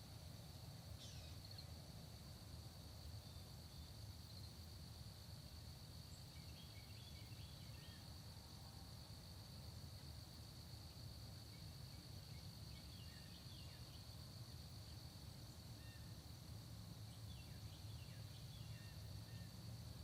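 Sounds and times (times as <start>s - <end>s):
high insect trill: 0.0s - 20.0s.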